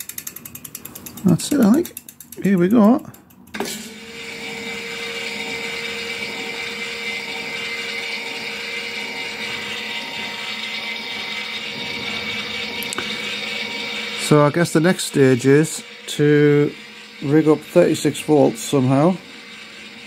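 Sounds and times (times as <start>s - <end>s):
electric motor whirring: 0.0s - 20.0s.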